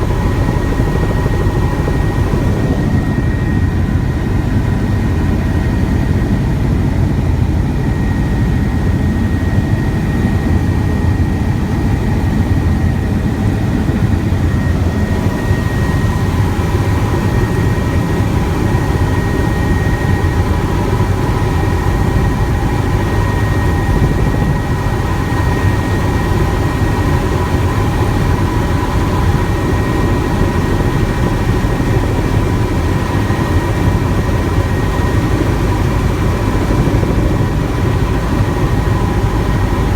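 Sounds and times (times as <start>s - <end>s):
helicopter rotor and engine rumble: 0.0s - 39.9s
turbine high whine: 0.0s - 39.9s.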